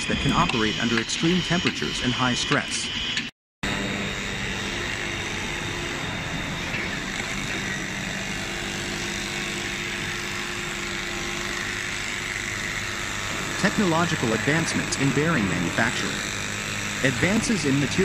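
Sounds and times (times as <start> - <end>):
machinery running with low hum: 0.0 - 18.0.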